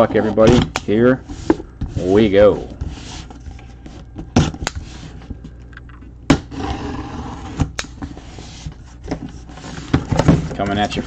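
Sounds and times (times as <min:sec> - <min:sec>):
cardboard scraping and rustling: 0:00.0 - 0:05.3, 0:06.5 - 0:11.0.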